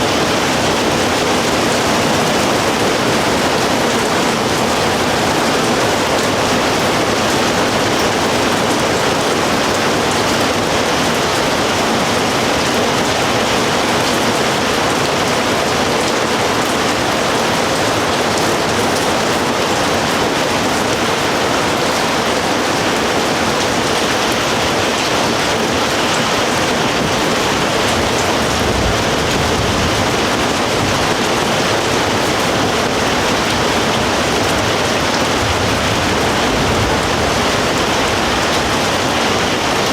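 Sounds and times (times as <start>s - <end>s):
rain pouring: 0.0s - 39.9s.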